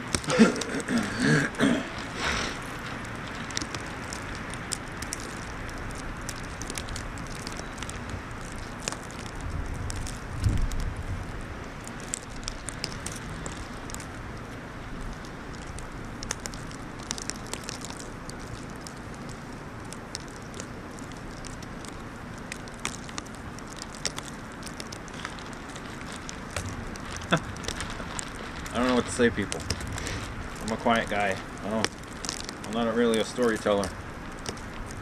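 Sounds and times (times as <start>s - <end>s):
faint crackles and ticks: 0.0s - 35.0s
outdoor wind: 0.0s - 35.0s.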